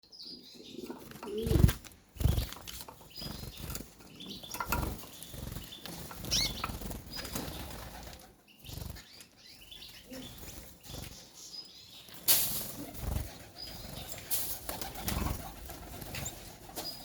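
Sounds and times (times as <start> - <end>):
canaries fluttering wings: 0.8 - 11.4, 12.1 - 17.0.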